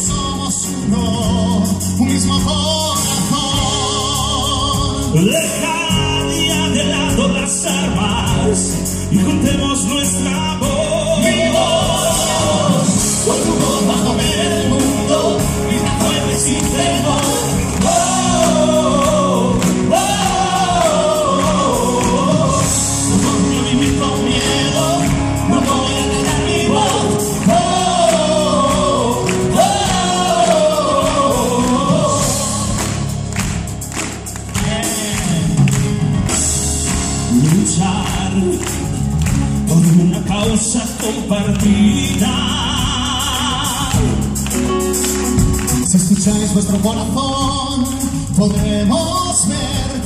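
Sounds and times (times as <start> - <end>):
male vocal group singing: 0.0 - 33.2, 34.5 - 35.8, 37.3 - 38.9, 39.6 - 44.3, 45.8 - 50.0
live backing band: 0.0 - 50.0.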